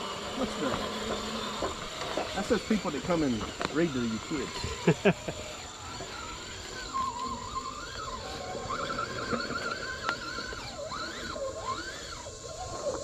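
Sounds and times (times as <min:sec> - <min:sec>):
electric motor and gearbox whine: 0:00.0 - 0:13.0.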